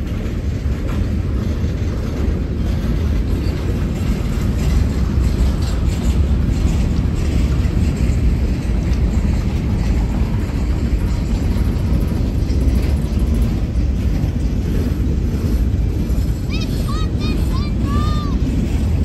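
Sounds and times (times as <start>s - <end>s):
train passing rumble: 0.0s - 19.0s.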